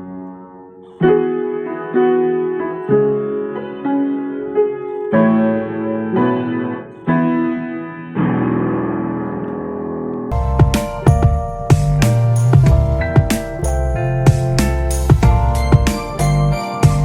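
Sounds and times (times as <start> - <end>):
piano chords ringing: 0.0 - 17.0.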